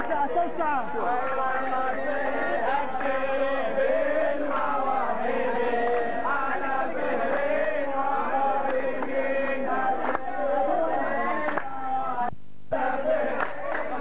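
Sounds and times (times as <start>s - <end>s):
men chanting: 0.0s - 14.0s.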